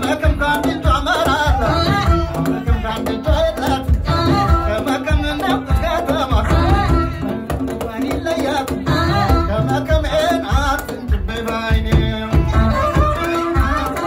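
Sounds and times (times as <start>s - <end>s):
hand drums beating: 0.0s - 14.0s
man singing into a microphone: 0.0s - 14.0s.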